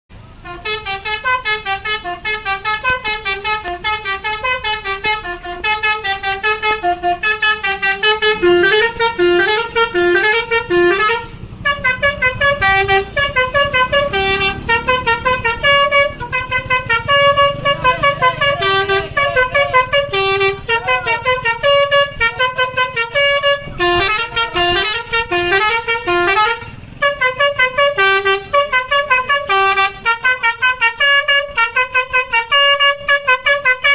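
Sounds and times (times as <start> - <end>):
musical bus horn playing tune: 0.3 - 33.9.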